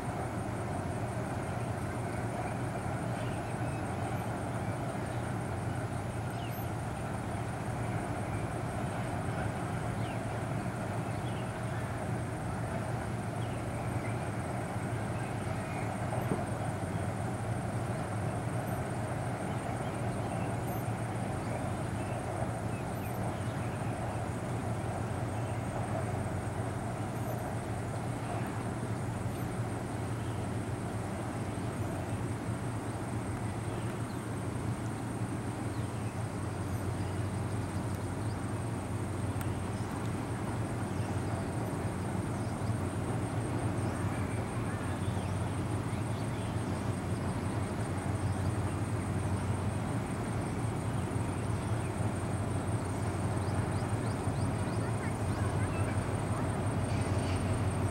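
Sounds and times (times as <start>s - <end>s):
distant locomotive drone: 0.0s - 57.9s.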